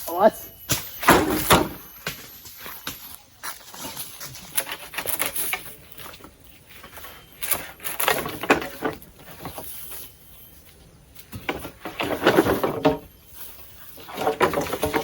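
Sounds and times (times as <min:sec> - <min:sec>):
leaves and twigs rustling: 0:00.0 - 0:15.0.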